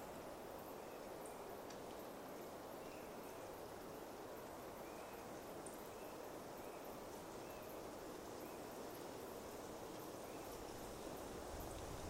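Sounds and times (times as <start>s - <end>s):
faint steady forest hush: 0.0s - 12.0s.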